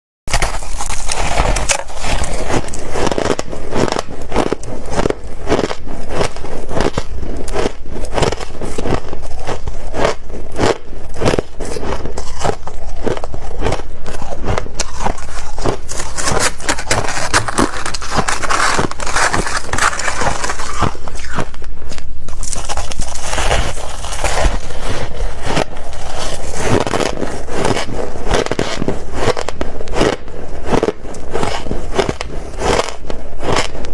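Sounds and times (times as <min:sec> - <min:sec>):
person crunching frost: 0:00.3 - 0:33.9.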